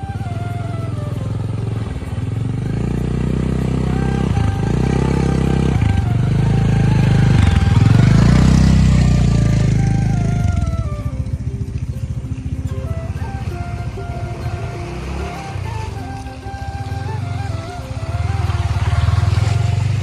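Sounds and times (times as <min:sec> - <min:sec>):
faint background music: 0:00.0 - 0:20.0
motorcycle engine revving: 0:00.0 - 0:20.0.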